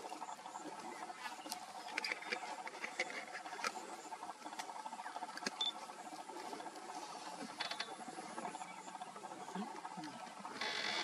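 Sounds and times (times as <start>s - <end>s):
rapidly pulsing insect trill: 0.0s - 11.0s.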